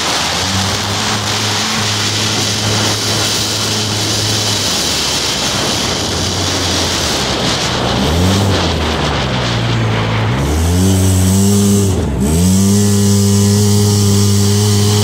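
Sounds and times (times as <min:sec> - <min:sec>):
off-road vehicle engine revving: 0:00.0 - 0:15.0
wind and tyres on dirt: 0:00.0 - 0:15.0.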